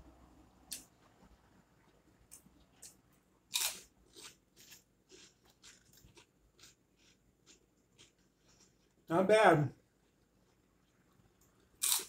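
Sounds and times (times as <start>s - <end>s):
crunching and chewing: 0.7s - 9.1s, 9.9s - 12.0s.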